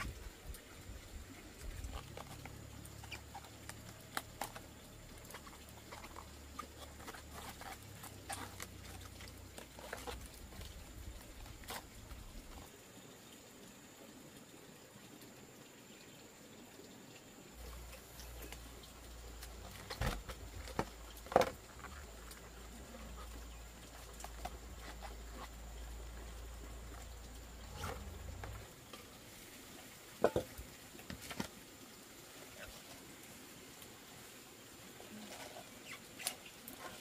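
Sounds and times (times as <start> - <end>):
leaves rustling in water: 0.0 - 13.6, 17.6 - 37.0.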